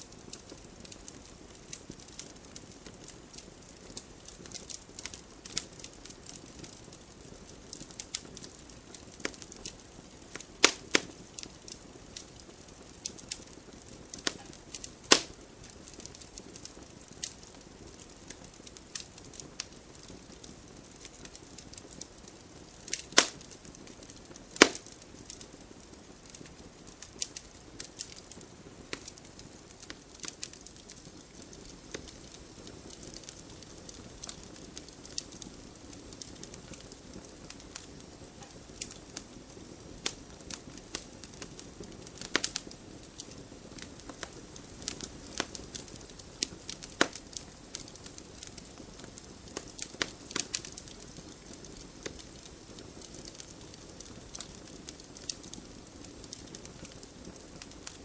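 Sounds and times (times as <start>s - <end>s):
fire crackling and popping: 0.0s - 58.0s
flames rushing: 0.3s - 58.0s.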